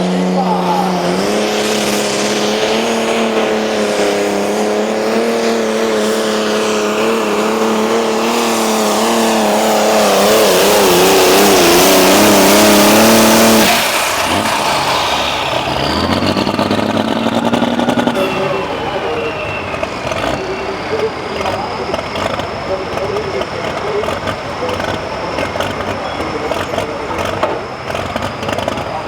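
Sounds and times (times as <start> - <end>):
high whine: 0.0 - 29.0
tractor engine at full throttle: 0.0 - 29.0.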